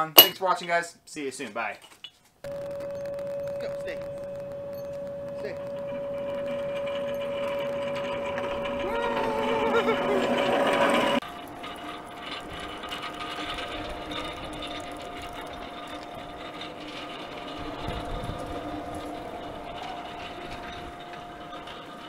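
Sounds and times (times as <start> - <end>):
pallet jack rattling over asphalt: 2.9 - 22.0.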